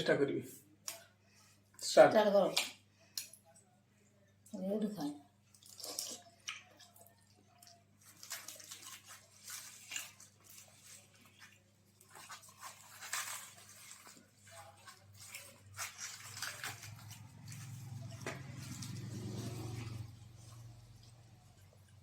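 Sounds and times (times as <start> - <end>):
eating and chewing noises: 2.5 - 22.0.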